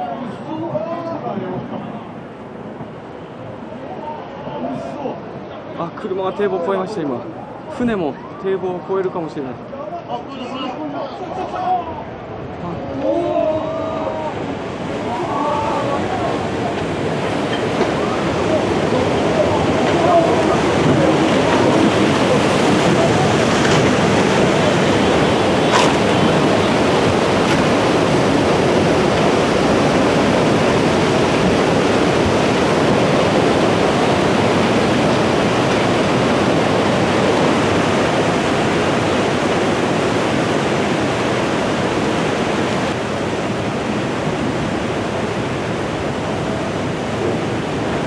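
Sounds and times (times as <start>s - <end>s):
water rushing over seawall: 0.0s - 48.0s.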